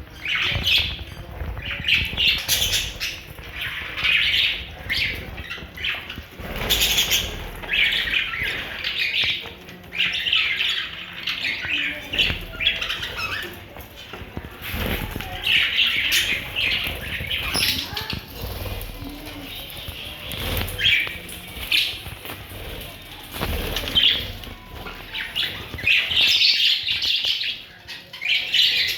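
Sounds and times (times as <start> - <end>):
parrots squawking: 0.1 - 13.8, 14.4 - 28.9.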